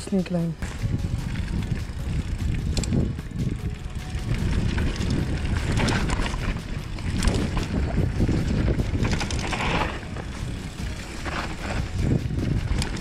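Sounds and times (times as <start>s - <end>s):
bike rattling clicks and knocks: 0.6s - 13.0s
tyres rumbling on dirt: 0.6s - 13.0s.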